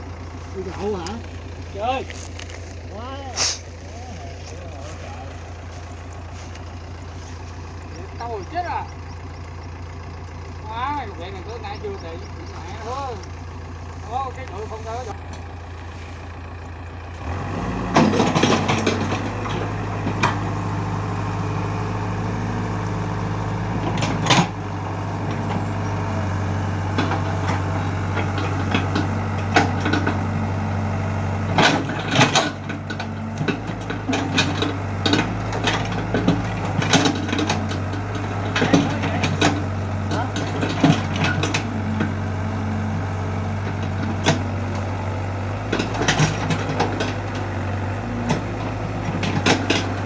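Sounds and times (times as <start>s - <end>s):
large diesel engine running: 0.0s - 50.0s.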